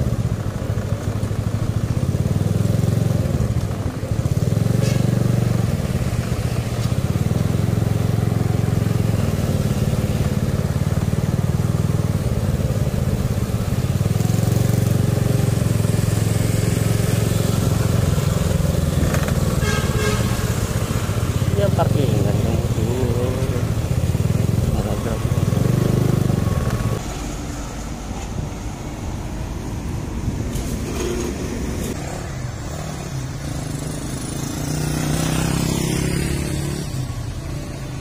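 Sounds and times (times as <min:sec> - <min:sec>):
motorcycle engine revving: 0:00.0 - 0:27.6, 0:30.5 - 0:38.0
road and wind noise: 0:00.0 - 0:38.0.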